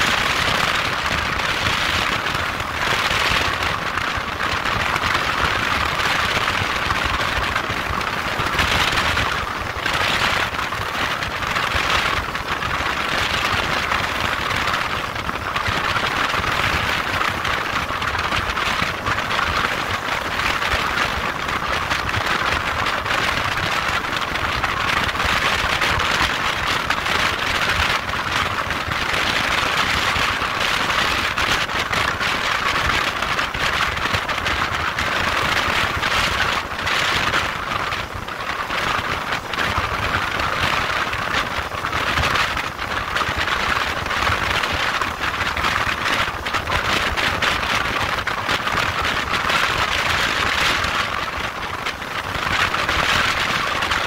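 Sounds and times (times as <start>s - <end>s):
motorcycle wind and road noise: 0.0s - 54.0s.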